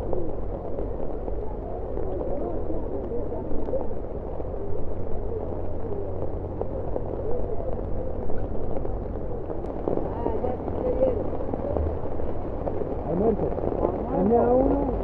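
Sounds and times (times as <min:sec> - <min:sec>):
muffled voices: 0:00.0 - 0:15.0
steady low rumble: 0:00.0 - 0:15.0.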